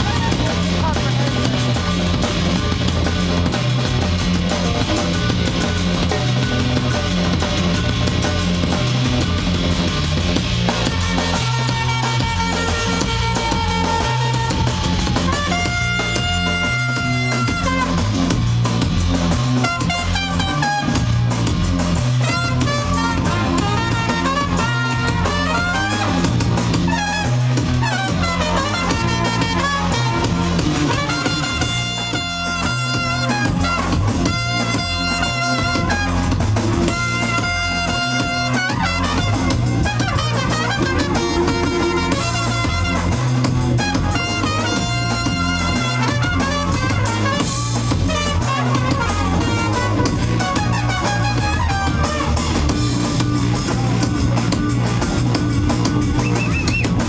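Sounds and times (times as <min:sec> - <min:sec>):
busy drums: 0:00.0 - 0:57.0
low bass line: 0:00.0 - 0:57.0
trumpet playing: 0:00.0 - 0:57.0.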